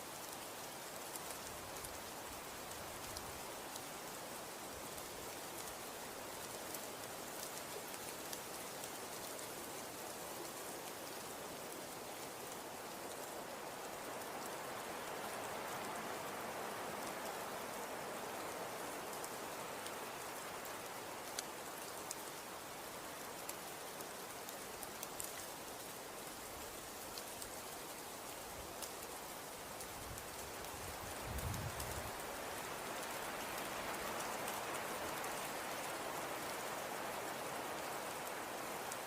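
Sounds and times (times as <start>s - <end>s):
faint small ticks: 0.0s - 39.0s
wind with blowing snow: 0.0s - 39.0s.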